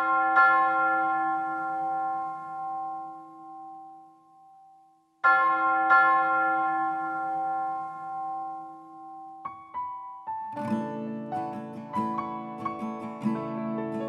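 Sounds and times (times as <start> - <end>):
bell-toned keyboard chords: 0.0 - 14.0.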